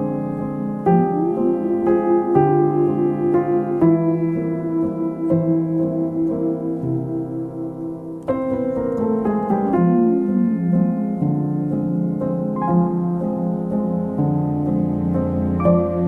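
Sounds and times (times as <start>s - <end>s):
piano chords and runs: 0.0s - 16.0s.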